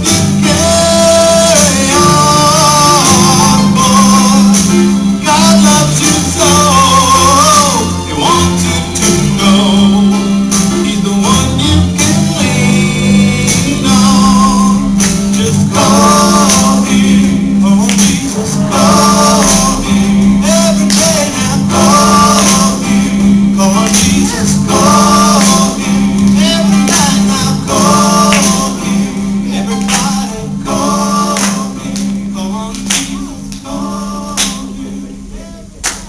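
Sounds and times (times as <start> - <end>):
upbeat gospel song: 0.0 - 36.0.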